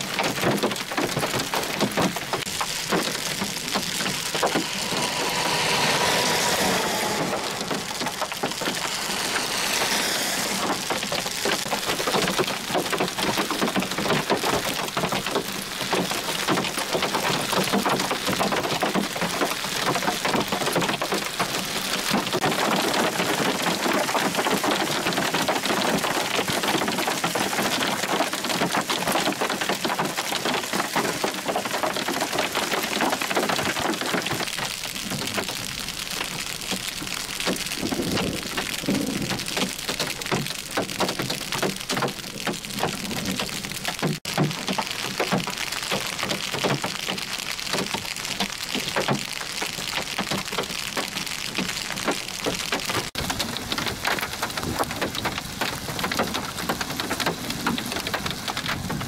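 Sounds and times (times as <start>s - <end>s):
hail pelting the road: 0.0s - 59.0s
tyres hissing on wet road: 0.0s - 59.0s.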